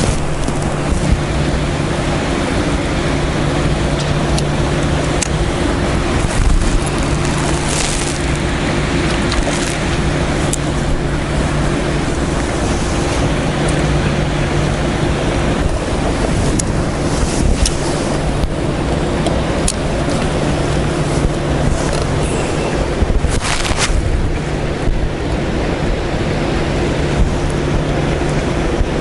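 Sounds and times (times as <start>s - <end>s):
low steady hum: 0.0s - 29.0s
wind on microphone: 0.0s - 29.0s.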